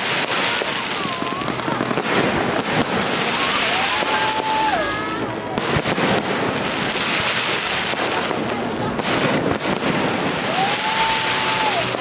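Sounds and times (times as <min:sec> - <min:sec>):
crowd voices: 0:00.0 - 0:12.0
firework whistling: 0:00.0 - 0:12.0
fireworks crackling and banging: 0:00.0 - 0:12.0.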